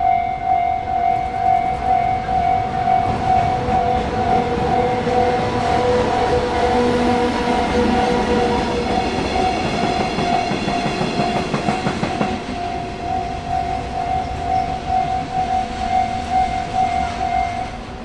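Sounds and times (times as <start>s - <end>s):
level-crossing warning bell: 0.0s - 18.0s.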